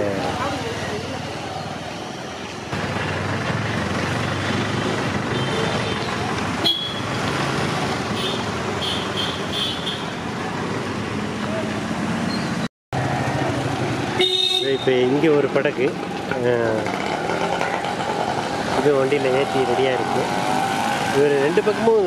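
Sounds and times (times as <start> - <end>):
scooter and car traffic: 0.0 - 22.0.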